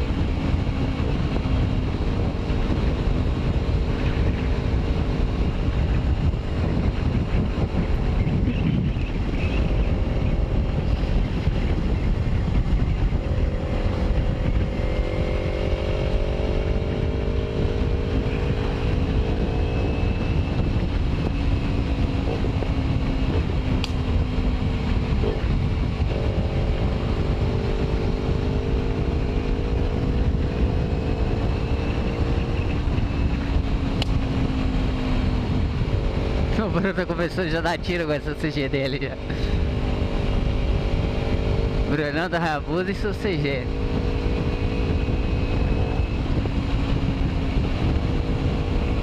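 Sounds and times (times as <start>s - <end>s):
motorcycle engine cruising: 0.0s - 49.0s
wind rumble on microphone: 0.0s - 49.0s.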